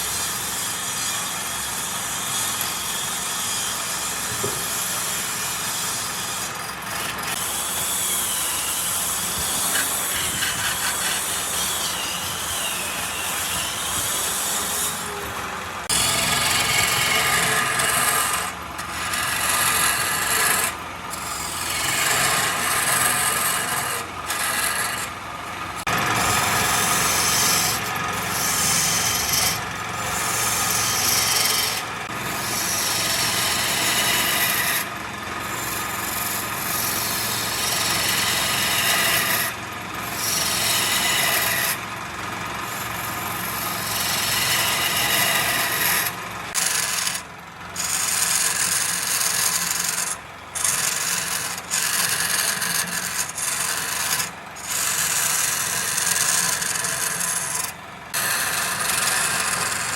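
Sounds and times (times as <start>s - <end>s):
tool scraping wood on lathe: 4.3s - 59.9s.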